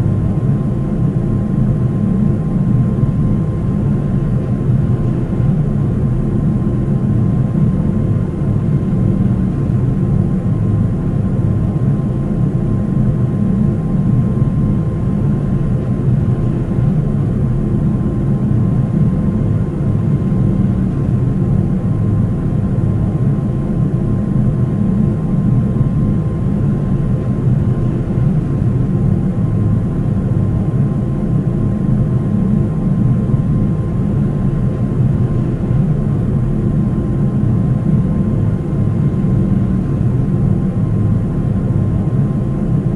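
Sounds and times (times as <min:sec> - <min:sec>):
faint steady whine: 0:00.0 - 0:42.9
jet engine drone in cabin: 0:00.0 - 0:42.9.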